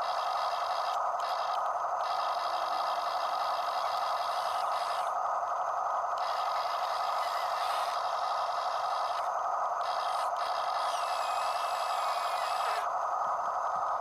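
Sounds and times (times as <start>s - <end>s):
high-pitched whir: 0.0s - 14.0s
toy motors and gears whirring: 0.0s - 14.0s.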